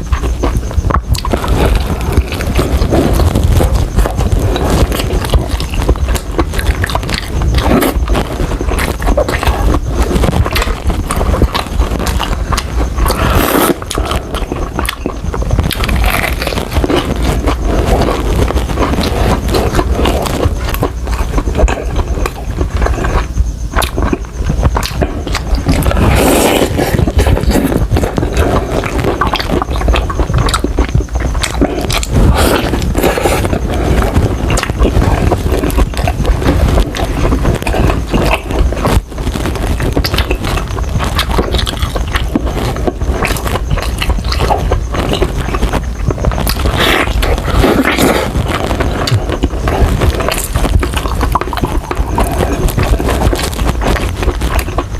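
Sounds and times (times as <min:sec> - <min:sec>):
chewing crispy fried chicken: 0:00.0 - 0:54.9
wet mouth sounds: 0:00.0 - 0:54.9.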